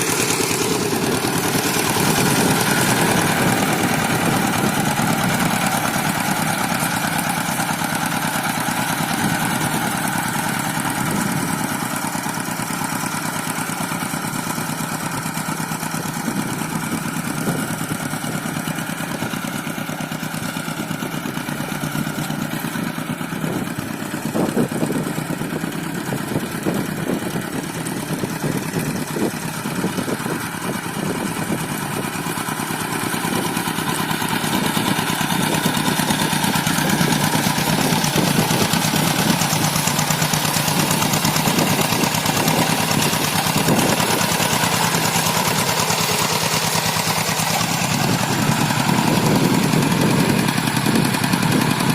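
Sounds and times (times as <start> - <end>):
diesel engine running: 0.0 - 51.9
engine clatter: 0.0 - 51.9.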